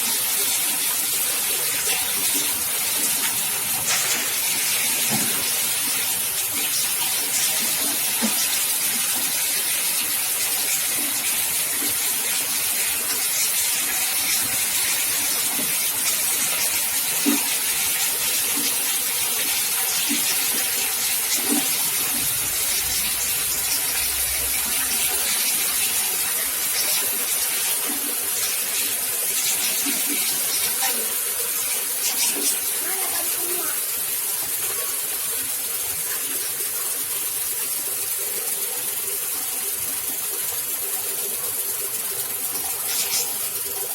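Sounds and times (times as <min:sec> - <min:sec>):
nut-cracking machine hissing: 0:00.1 - 0:35.1, 0:41.0 - 0:43.9.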